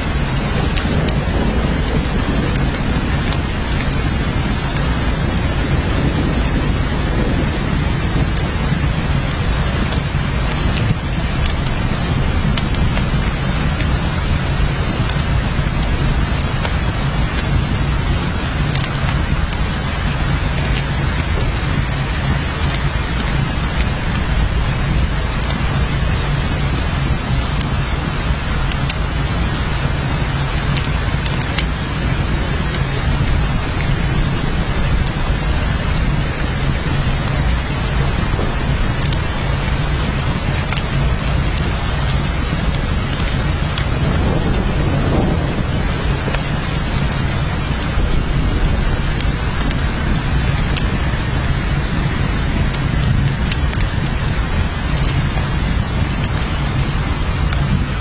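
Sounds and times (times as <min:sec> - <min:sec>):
raindrops ticking: 0:00.0 - 0:58.0
steady rain: 0:00.0 - 0:58.0.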